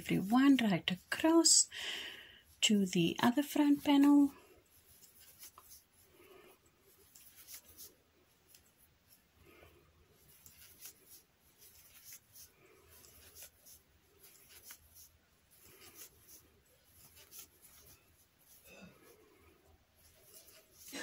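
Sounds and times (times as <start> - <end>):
crochet hook scratching yarn: 0.0 - 1.5, 2.5 - 21.0.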